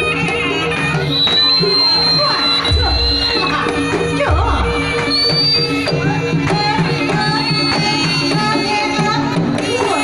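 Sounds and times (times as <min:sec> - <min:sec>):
shrill reed pipe melody: 0:00.0 - 0:09.0
drums beating: 0:00.0 - 0:10.0.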